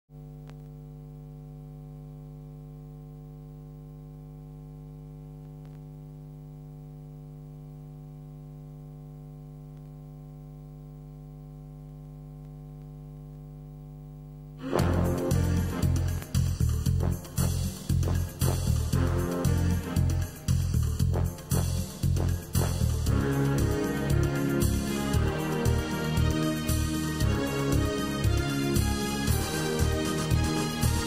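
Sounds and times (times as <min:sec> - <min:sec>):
electrical mains hum: 0:00.1 - 0:31.0.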